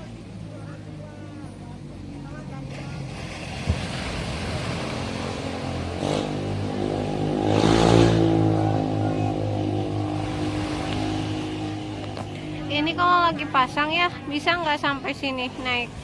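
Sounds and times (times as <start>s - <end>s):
surf washing: 0.0s - 16.0s
vehicle engine passing by: 2.2s - 15.6s.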